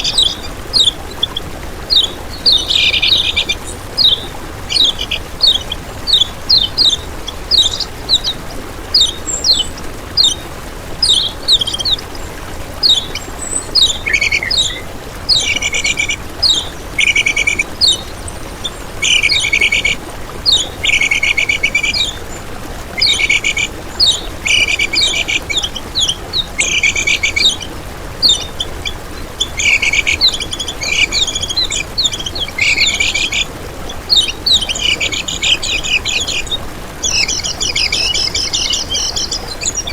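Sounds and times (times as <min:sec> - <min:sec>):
songbird singing high chirps: 0:00.0 - 0:39.9.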